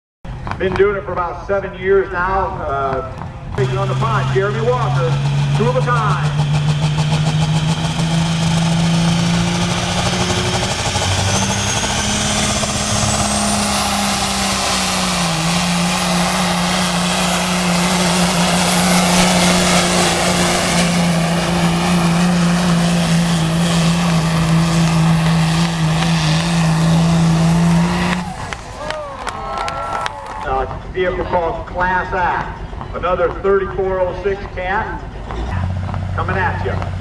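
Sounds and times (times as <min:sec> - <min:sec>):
diesel engine droning under load: 0:00.3 - 0:37.0.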